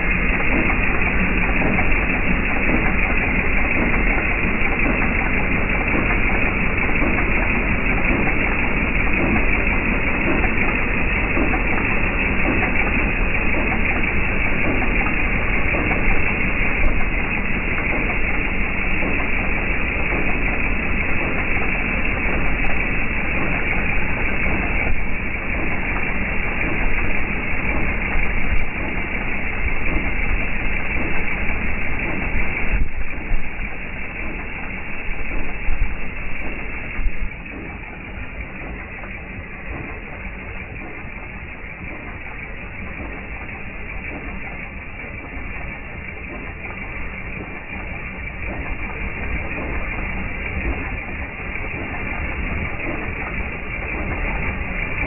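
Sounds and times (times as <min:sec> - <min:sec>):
engine ticking knocking: 0:00.0 - 0:55.0.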